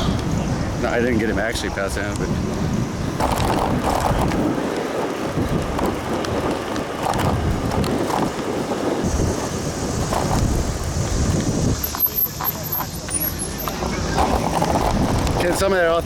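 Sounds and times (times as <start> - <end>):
bicycle riding noise: 0.0 - 16.0
wind buffeting microphone: 0.0 - 16.0.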